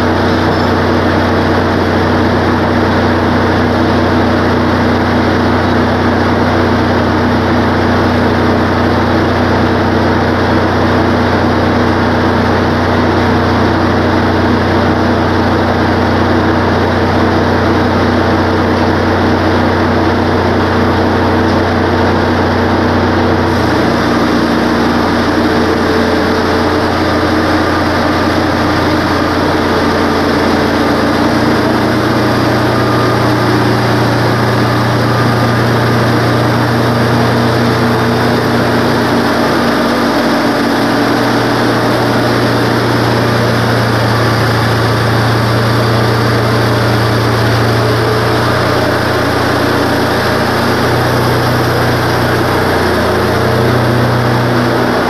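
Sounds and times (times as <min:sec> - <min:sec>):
band saw cutting log: 0:00.0 - 0:55.0
sawmill engine running: 0:00.0 - 0:55.0.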